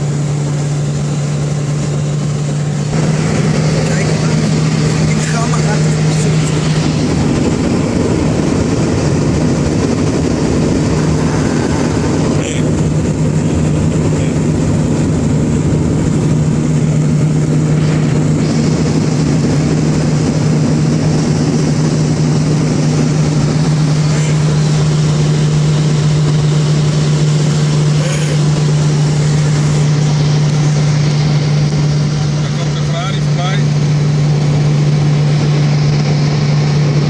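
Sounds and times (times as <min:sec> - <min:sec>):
car engine drone: 0:00.0 - 0:37.0
road and wind noise: 0:00.0 - 0:37.0.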